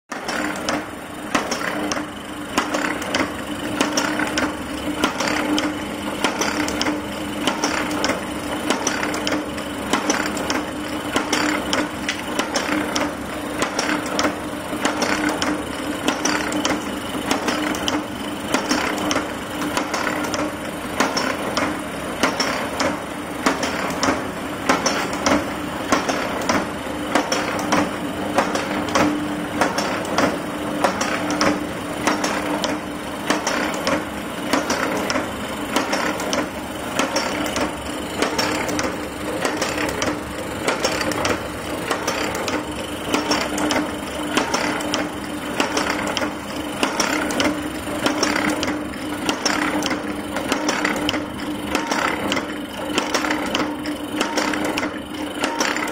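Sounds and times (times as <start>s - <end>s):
machine dies clacking: 0.1s - 55.9s
motor hum: 0.1s - 55.9s.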